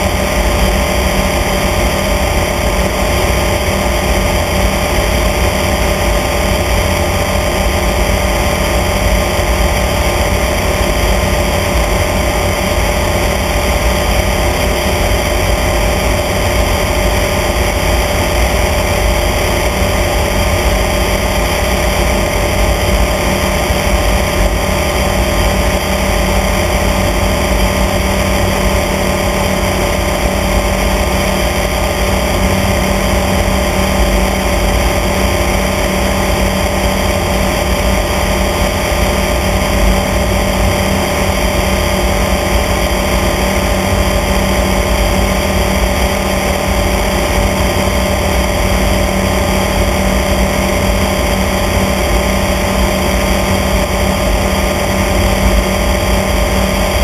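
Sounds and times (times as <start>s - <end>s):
small aircraft engine and propeller: 0.0s - 57.0s.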